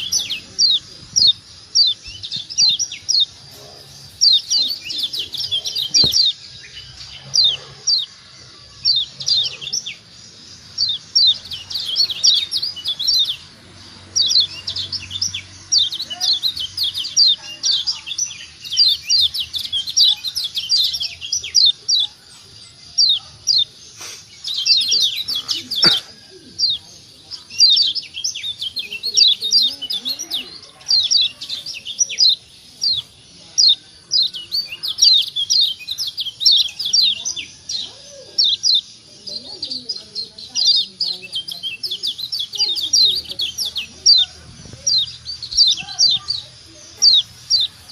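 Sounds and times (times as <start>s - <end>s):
bird chip calls: 0.0s - 47.9s.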